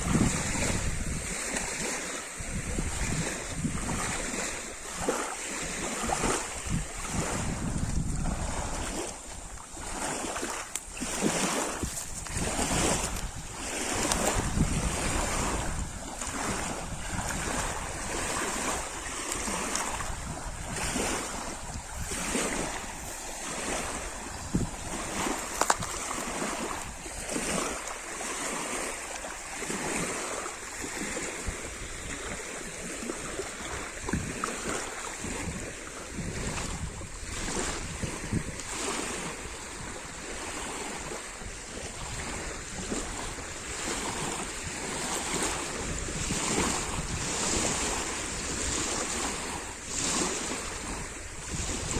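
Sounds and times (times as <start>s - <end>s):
lake water splashing: 0.0s - 51.9s.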